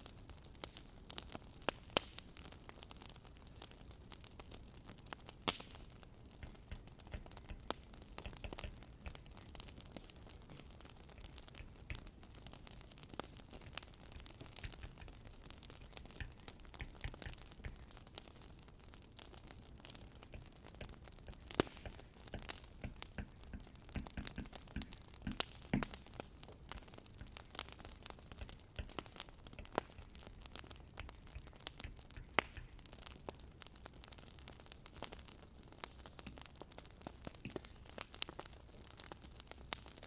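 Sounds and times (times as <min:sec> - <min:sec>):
faint steady hiss: 0:00.0 - 0:40.0
wood fire crackling: 0:00.0 - 0:40.0.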